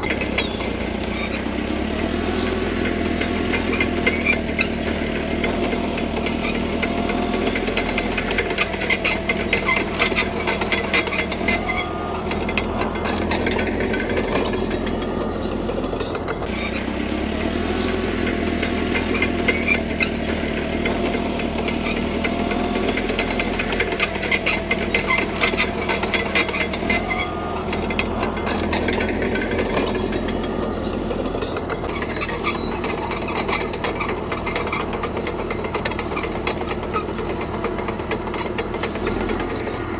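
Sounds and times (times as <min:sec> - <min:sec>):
bulldozer diesel engine running: 0:00.0 - 0:39.9
metal tracks clattering and squealing: 0:00.0 - 0:39.9.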